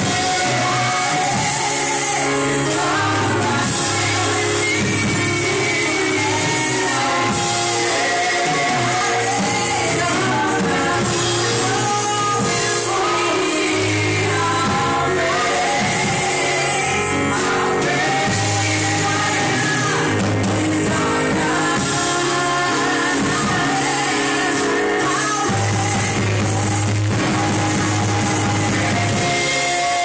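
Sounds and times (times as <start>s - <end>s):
band accompaniment with bass: 0.0s - 30.0s
voices singing worship song: 0.0s - 30.0s.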